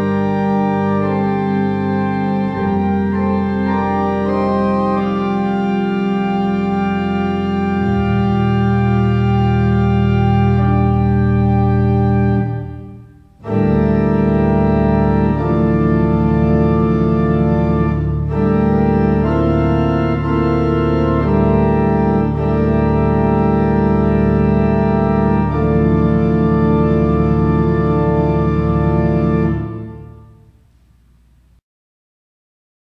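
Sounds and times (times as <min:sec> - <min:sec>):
pipe organ playing slow chords: 0:00.0 - 0:31.4.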